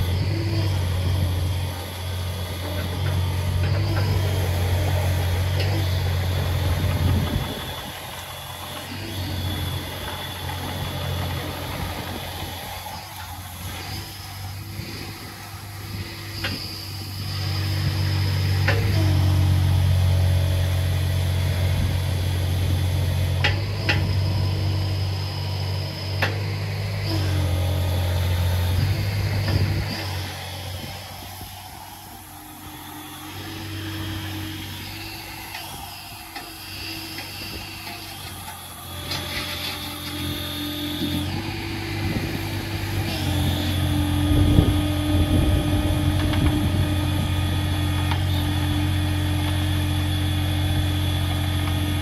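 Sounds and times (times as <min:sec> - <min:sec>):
mini excavator diesel engine: 0:00.0 - 0:52.0.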